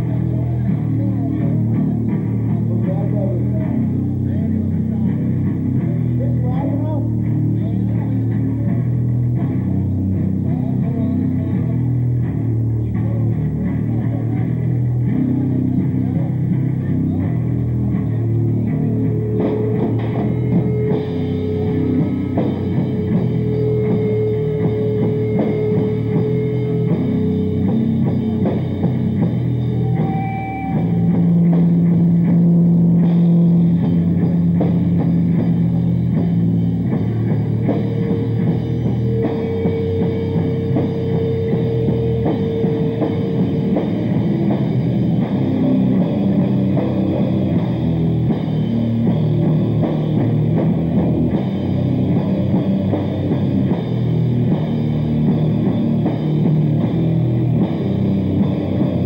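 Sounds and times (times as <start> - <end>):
loud metal band playing: 0.0 - 59.0.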